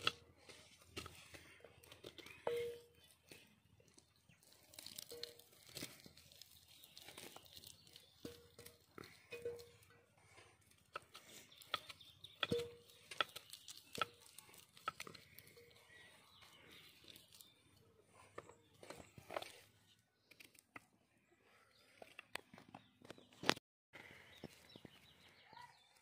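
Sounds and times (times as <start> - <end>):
potatoes squished by hand: 0.0 - 20.9.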